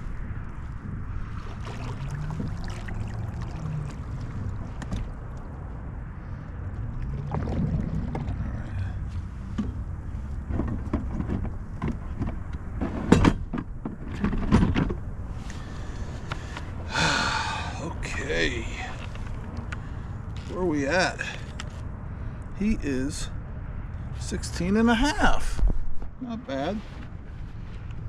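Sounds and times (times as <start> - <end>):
wind rumble on microphone: 0.0 - 20.4, 23.2 - 28.0.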